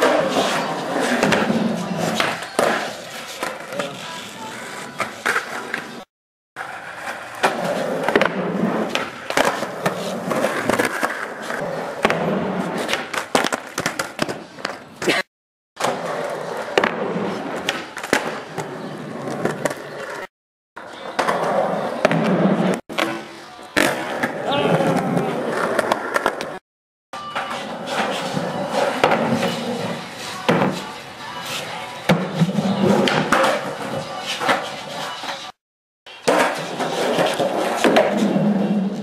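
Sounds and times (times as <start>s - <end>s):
skateboard clacks: 0.0s - 6.0s, 6.6s - 15.2s, 15.8s - 26.6s, 27.2s - 35.5s, 36.1s - 39.0s
skateboard wheels rolling on concrete: 0.0s - 26.6s, 27.2s - 39.0s.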